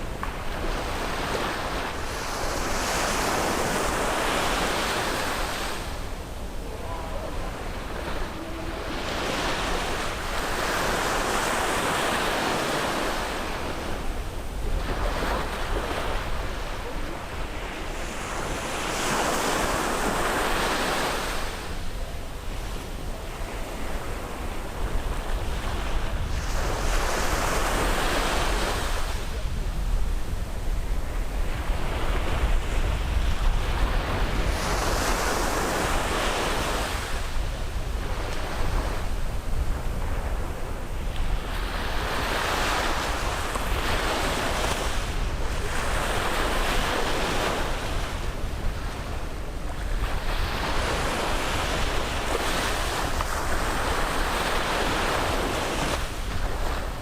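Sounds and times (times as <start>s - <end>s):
waves breaking on a beach: 0.0s - 57.0s.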